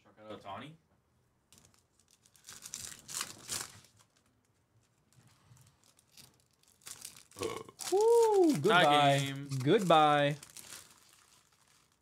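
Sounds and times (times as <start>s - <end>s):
foil wrappers crinkling and tearing: 1.5s - 12.0s.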